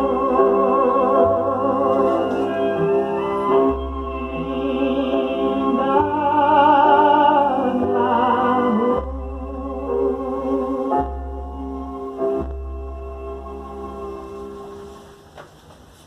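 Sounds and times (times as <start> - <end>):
sustained chords on vinyl record: 0.0 - 15.3.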